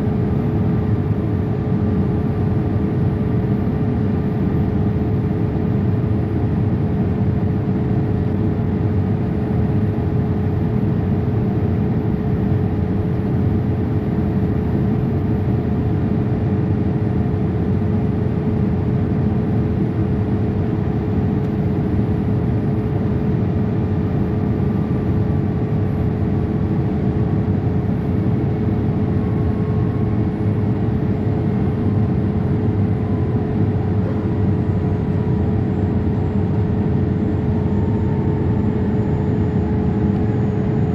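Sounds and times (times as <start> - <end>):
airplane cabin airflow and engine noise: 0.0 - 40.9
constant humming tone: 0.0 - 40.9.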